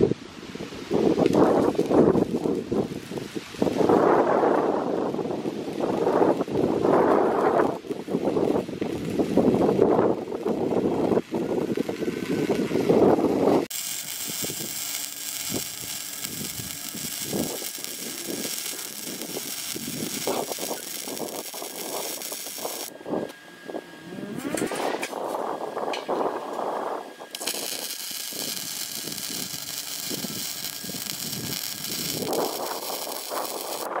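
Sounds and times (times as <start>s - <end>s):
arc welding crackling hiss: 0.0s - 34.0s.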